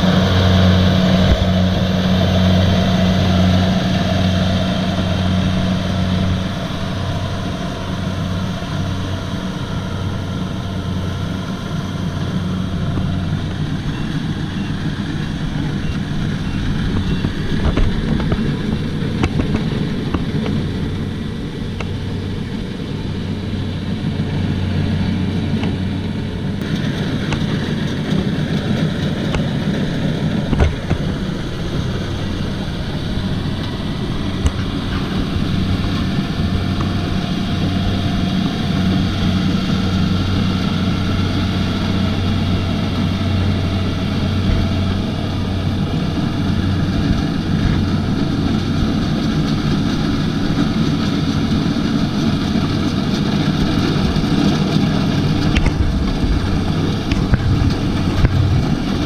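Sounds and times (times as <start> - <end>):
combine harvester engine running: 0.0 - 59.0.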